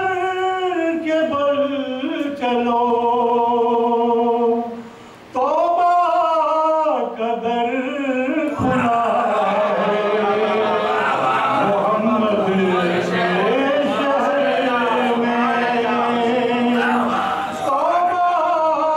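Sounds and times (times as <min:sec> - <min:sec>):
man singing unaccompanied: 0:00.0 - 0:18.9.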